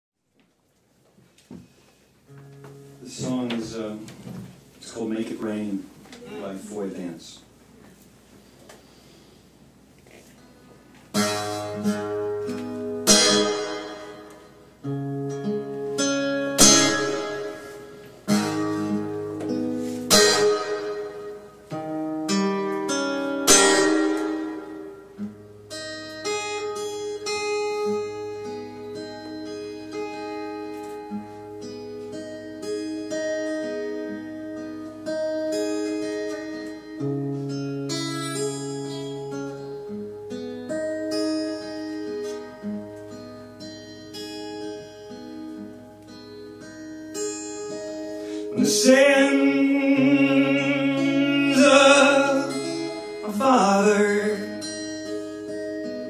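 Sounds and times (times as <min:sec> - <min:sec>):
acoustic guitar chords: 0:01.6 - 0:08.0, 0:09.6 - 0:56.0.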